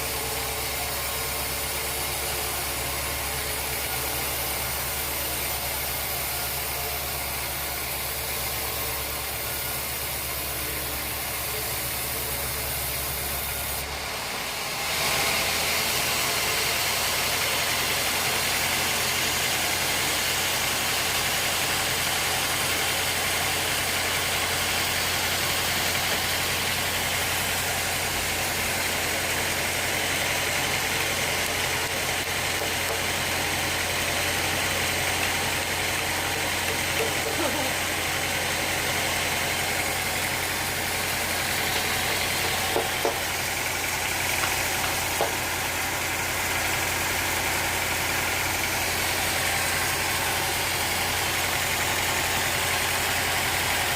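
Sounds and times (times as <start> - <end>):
sawmill machinery humming: 0.0 - 53.9.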